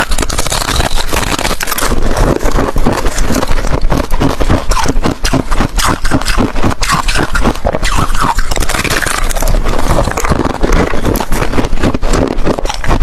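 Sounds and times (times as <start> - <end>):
ice cubes crunched between teeth: 0.0 - 13.0.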